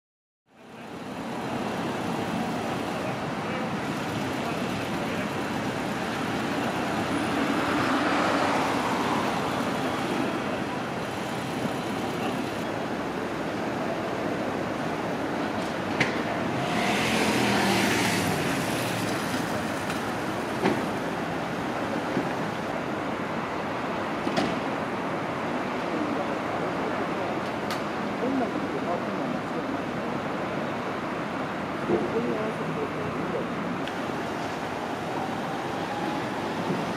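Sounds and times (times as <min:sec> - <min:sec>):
road traffic noise: 0:00.5 - 0:36.9
cars passing: 0:00.6 - 0:36.9.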